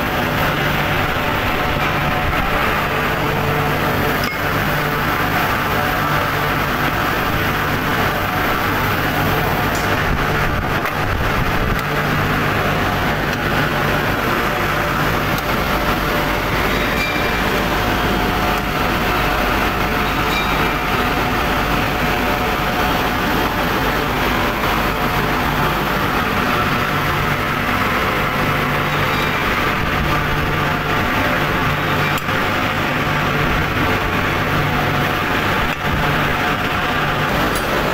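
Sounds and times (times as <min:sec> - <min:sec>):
industrial machinery din: 0:00.0 - 0:37.9.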